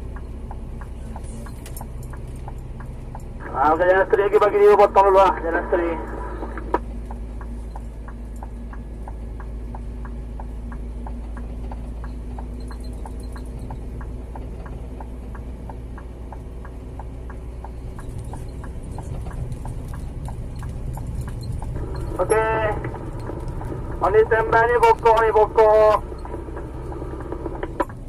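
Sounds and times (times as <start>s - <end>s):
indicator ticking: 0.0s - 5.4s, 6.8s - 28.0s
truck diesel engine drone: 0.0s - 28.0s.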